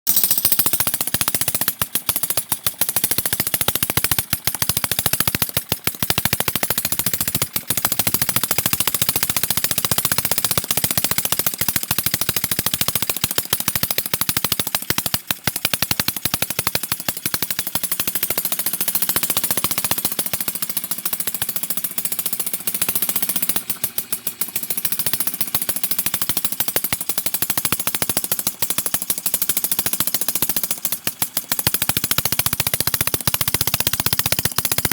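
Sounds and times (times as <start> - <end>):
two-stroke engine firing pops: 0.1 - 34.9.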